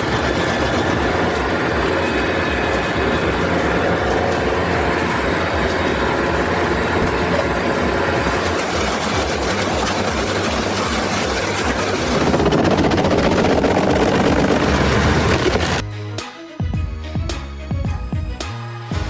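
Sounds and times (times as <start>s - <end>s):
heavy engine rumbling: 0.0s - 15.8s.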